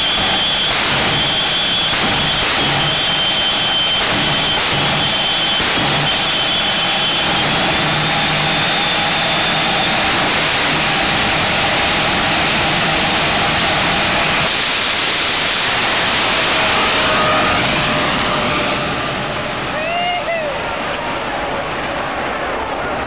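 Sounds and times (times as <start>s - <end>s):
jet engine with afterburner: 0.0s - 19.8s.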